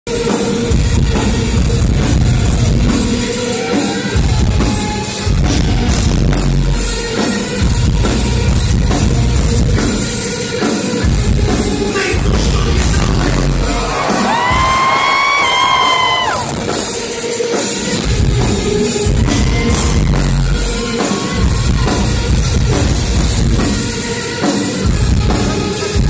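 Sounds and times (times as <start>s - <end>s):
live rock band playing: 0.1s - 26.0s
pounding drum kit: 0.1s - 26.0s.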